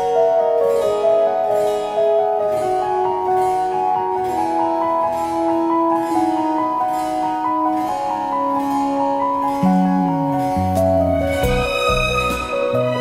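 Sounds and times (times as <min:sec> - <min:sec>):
melodic music over soft beat: 0:00.0 - 0:13.0.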